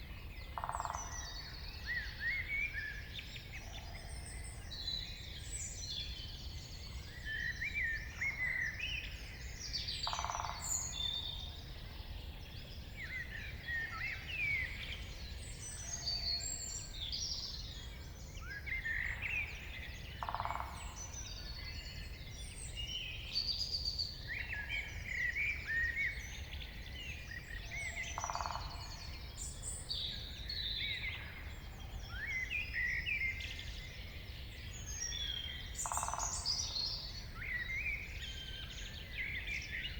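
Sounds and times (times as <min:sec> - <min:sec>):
woodland birds singing: 0:00.0 - 0:39.9.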